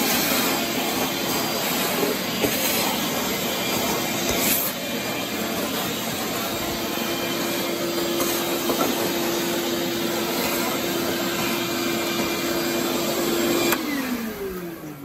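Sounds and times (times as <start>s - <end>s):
shop vacuum running: 0.0s - 15.0s.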